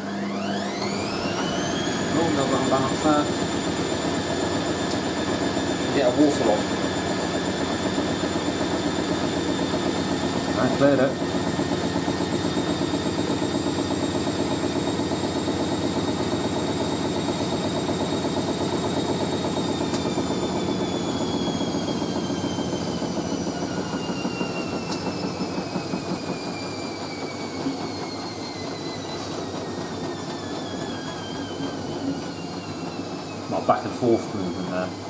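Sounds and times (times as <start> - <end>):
washing machine spinning: 0.0 - 35.0.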